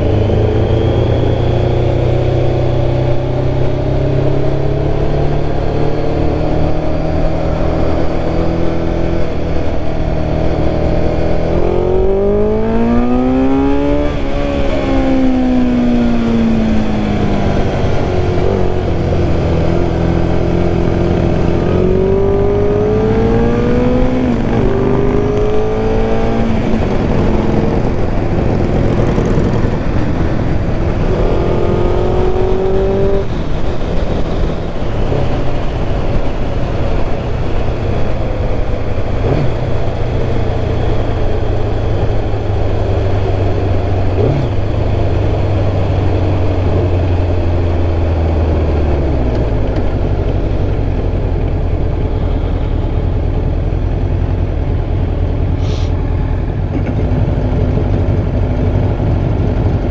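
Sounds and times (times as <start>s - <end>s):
motorcycle engine accelerating: 0.0s - 59.9s
wind rush: 0.0s - 59.9s.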